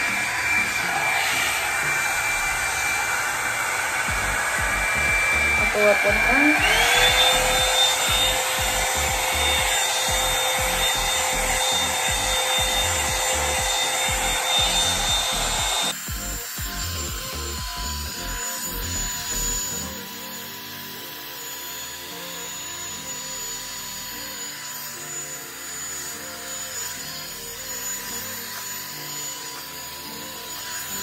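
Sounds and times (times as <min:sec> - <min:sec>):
hot-air brush running: 0:00.0 - 0:31.0.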